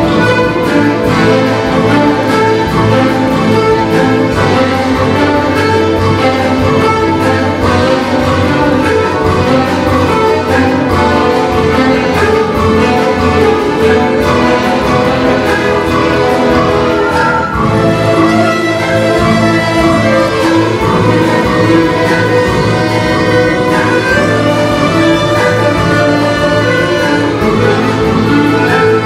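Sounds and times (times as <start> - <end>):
folk instrument orchestra playing: 0.0 - 29.0.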